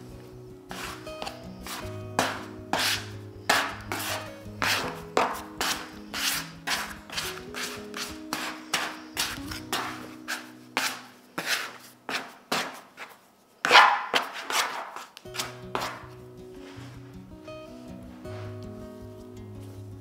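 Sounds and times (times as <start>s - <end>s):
soft background music: 0.0s - 12.4s, 15.2s - 20.0s
scraper scraping on wooden table: 0.7s - 17.0s.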